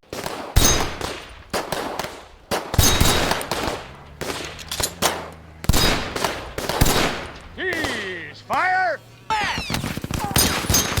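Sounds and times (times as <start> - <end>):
gunshots with echo: 0.0 - 8.7, 9.3 - 11.0.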